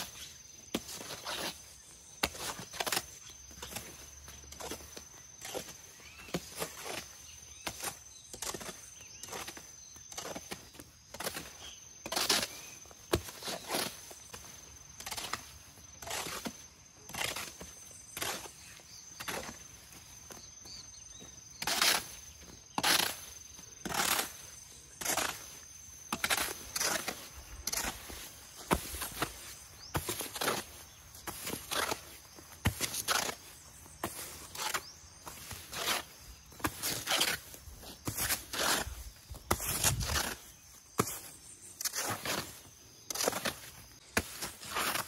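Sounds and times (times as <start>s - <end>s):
hoe scraping wet mortar: 0.0s - 19.8s, 21.6s - 45.0s.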